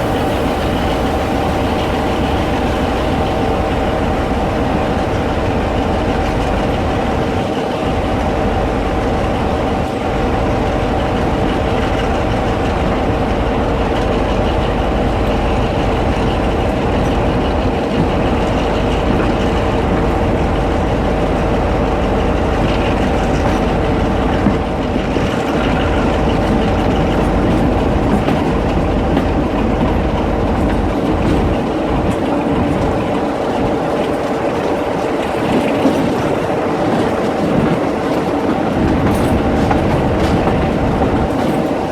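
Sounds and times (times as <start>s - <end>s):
constant whining tones: 0.0s - 41.9s
train rumble: 0.0s - 41.9s.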